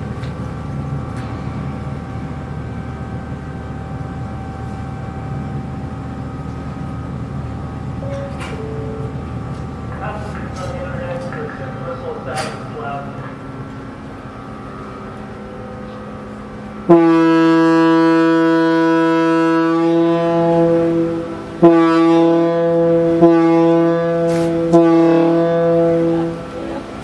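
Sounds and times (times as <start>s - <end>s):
ship horn blasts: 3.6s - 27.0s.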